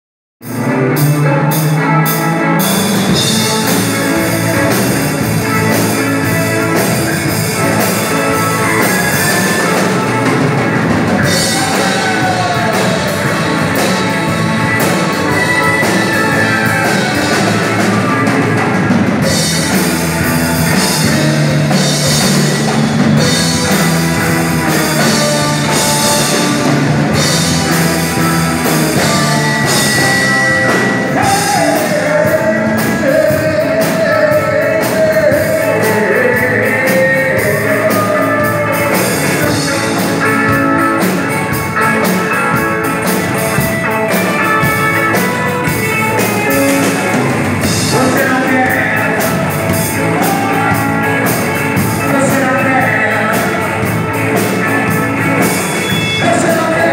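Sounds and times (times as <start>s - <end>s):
live rock band playing: 0.4s - 56.9s.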